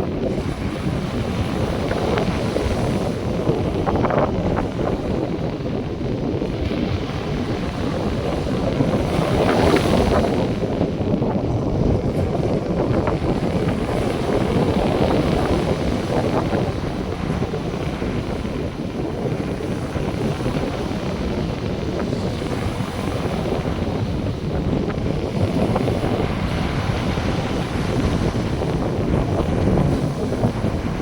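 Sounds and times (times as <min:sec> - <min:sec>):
surf washing onto beach: 0:00.0 - 0:31.0
wind buffeting microphone: 0:00.0 - 0:31.0.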